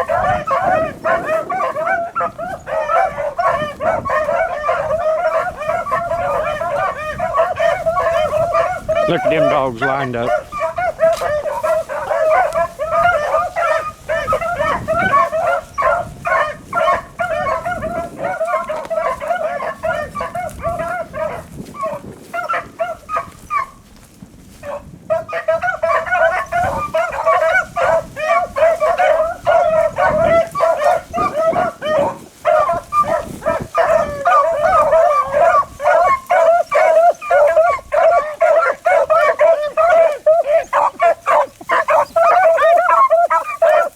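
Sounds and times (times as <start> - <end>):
pack of dogs baying: 0.0 - 43.9.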